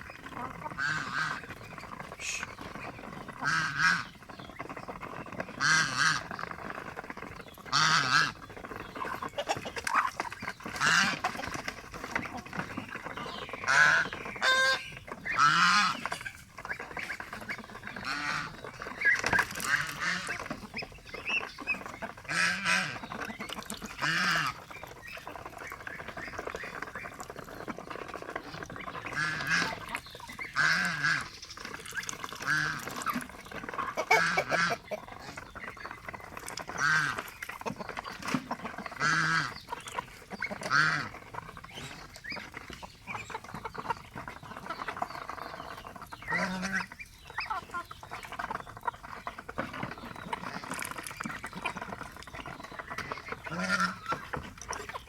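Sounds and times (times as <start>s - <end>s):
ducks quacking: 0.0s - 55.0s
geese honking: 0.0s - 55.0s.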